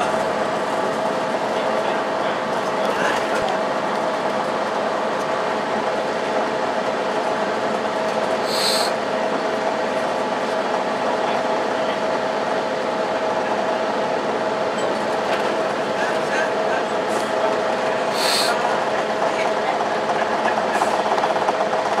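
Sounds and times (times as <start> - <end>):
bus engine drone with whine: 0.0 - 21.9.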